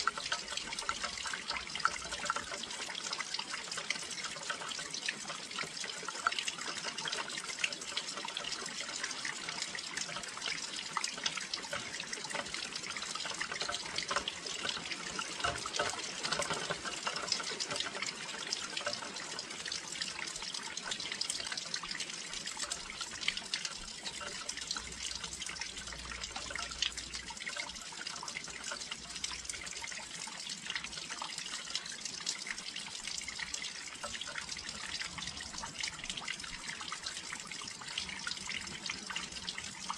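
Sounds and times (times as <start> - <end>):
raindrops ticking: 0.0 - 39.9.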